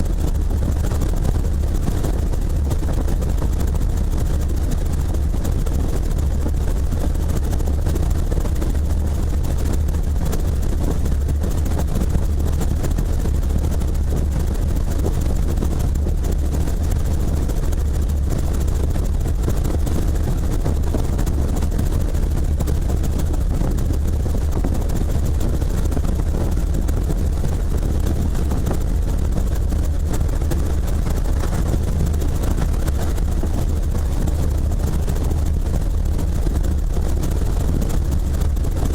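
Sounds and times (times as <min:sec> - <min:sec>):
helicopter drone: 0:00.0 - 0:38.9.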